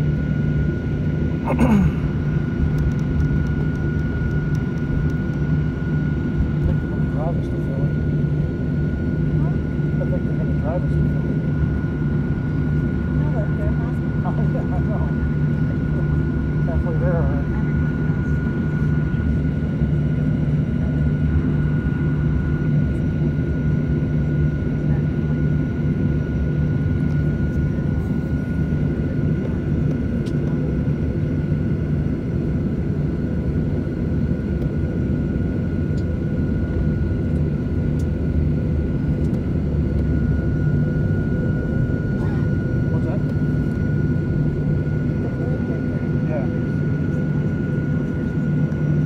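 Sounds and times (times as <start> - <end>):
jet engine rumble and whine: 0.0 - 49.0.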